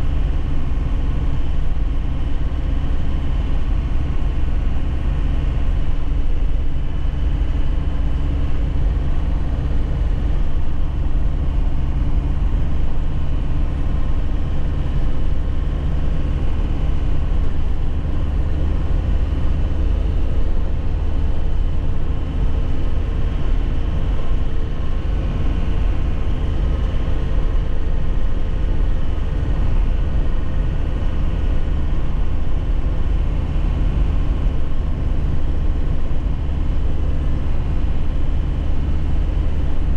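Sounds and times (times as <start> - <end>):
low road rumble: 0.0 - 39.9
truck engine drone: 0.0 - 39.9.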